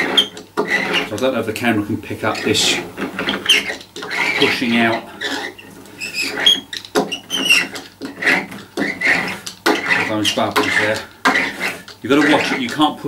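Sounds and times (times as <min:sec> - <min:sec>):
hand roller rubbing and squeaking: 0:00.0 - 0:13.0.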